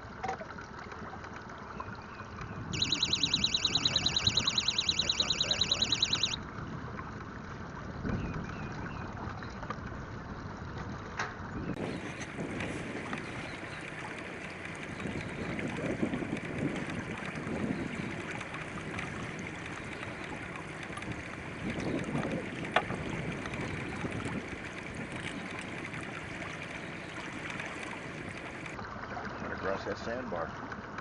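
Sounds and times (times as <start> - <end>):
wind and water hiss: 0.0 - 31.0.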